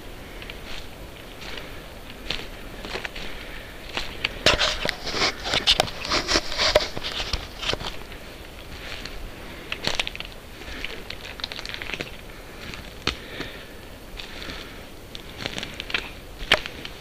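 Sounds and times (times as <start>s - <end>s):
footsteps crunching through twigs: 0.0s - 17.0s
twigs snapping: 0.3s - 17.0s.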